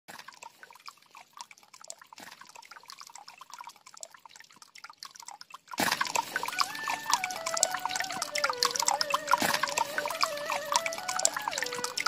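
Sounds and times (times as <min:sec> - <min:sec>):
water trickling and dripping: 0:00.1 - 0:12.0.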